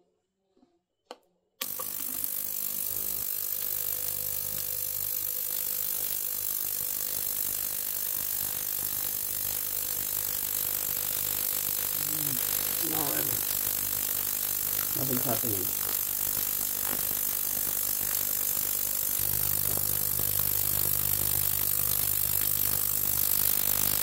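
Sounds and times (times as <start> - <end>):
ultrasonic cleaner hissing and buzzing: 1.6 - 24.0.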